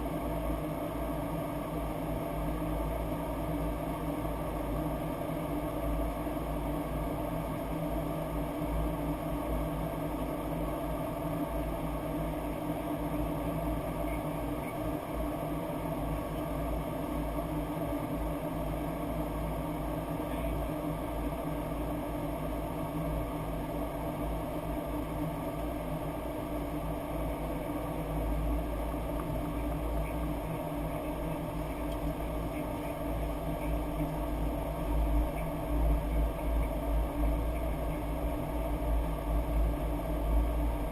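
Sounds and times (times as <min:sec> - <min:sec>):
low hum: 0:00.0 - 0:40.9.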